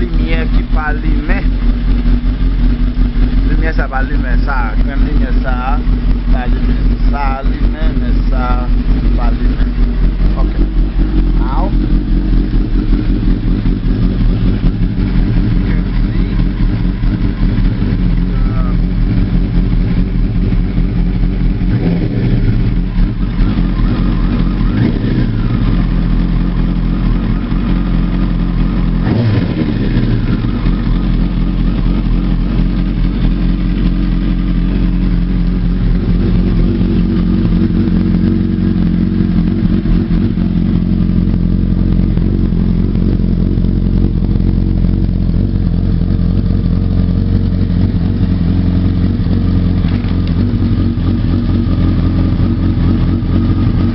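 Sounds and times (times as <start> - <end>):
motorcycle engine revving and idling: 0.0 - 53.9.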